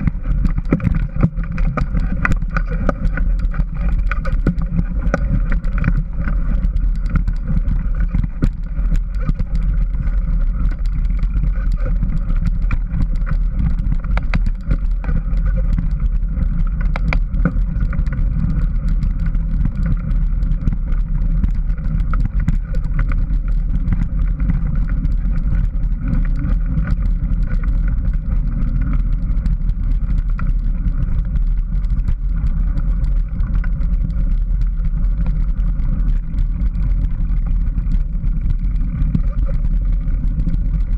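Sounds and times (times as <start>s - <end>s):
bike clicks and rattles: 0.0s - 40.9s
bike tyres rolling on dirt: 0.0s - 40.9s
wind buffeting microphone: 0.0s - 40.9s.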